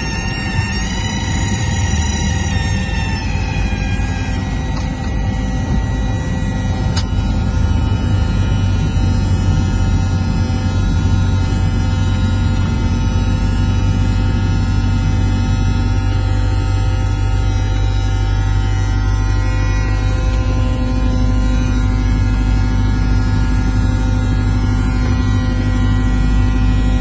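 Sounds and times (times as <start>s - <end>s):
airplane engine droning in cockpit: 0.0s - 27.0s.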